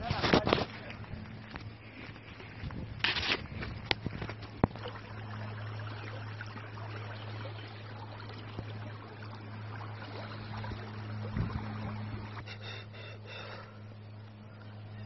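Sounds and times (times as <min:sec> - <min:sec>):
low steady hum: 0:00.0 - 0:15.0
steady outdoor rushing noise: 0:00.0 - 0:15.0.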